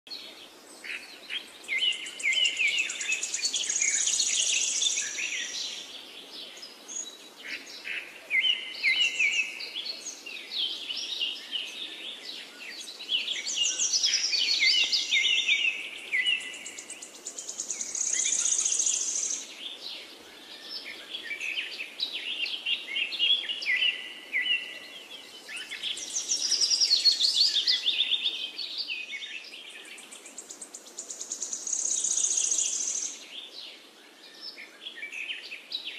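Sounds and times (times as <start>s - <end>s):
faint outdoor background: 0.0s - 35.9s
songbirds singing trilled phrases: 0.1s - 35.9s.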